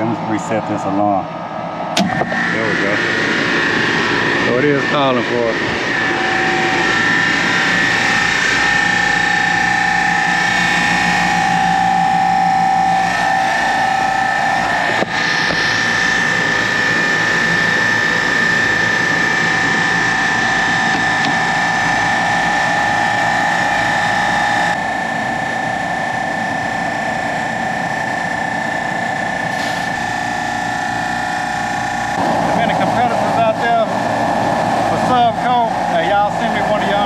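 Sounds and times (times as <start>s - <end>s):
air conditioning compressor drone: 0.0s - 37.0s.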